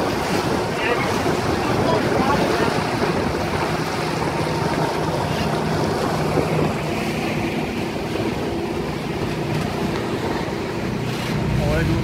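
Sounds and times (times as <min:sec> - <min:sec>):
motorboat engine running: 0:00.0 - 0:12.0
water rushing in wake: 0:00.0 - 0:12.0
wind buffeting microphone: 0:00.0 - 0:12.0.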